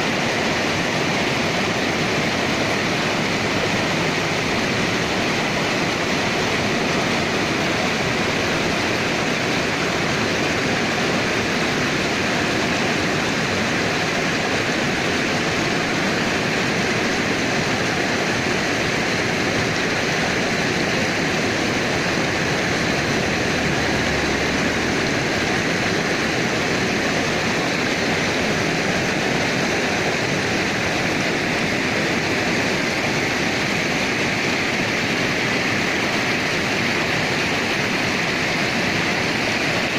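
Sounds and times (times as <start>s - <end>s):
river rushing over boulders: 0.0s - 39.9s.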